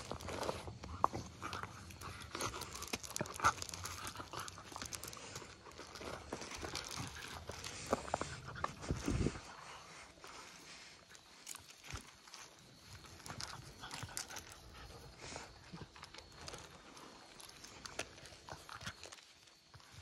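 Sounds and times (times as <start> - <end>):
puppies scuffling on gravel: 0.0 - 20.0.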